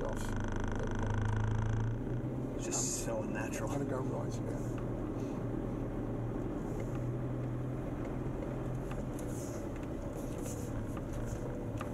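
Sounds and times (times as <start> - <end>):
car engine running at low revs: 0.0 - 11.9.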